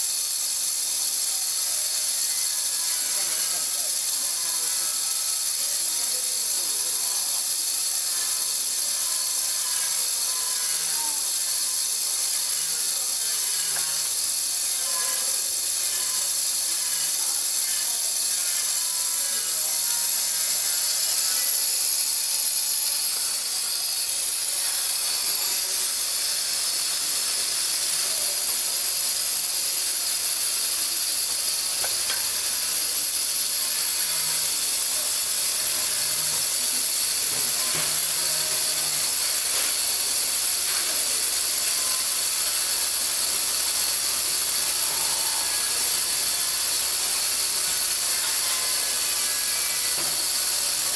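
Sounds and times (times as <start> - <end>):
machine hissing: 0.0 - 50.9.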